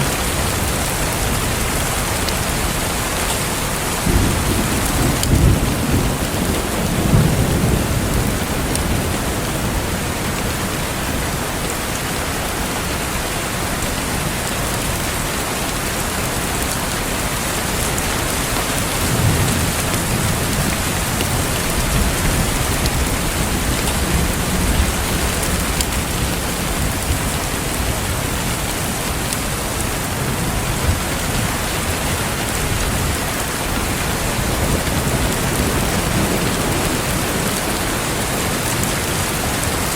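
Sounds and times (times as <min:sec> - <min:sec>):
thunder rumbling: 0:00.0 - 0:11.7, 0:17.3 - 0:39.9
steady rain: 0:00.0 - 0:39.9.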